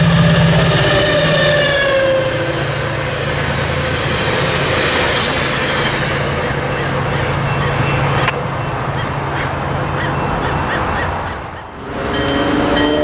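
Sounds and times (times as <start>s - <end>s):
locomotive engine passing: 0.0s - 13.0s
train wheels on rails: 0.0s - 13.0s.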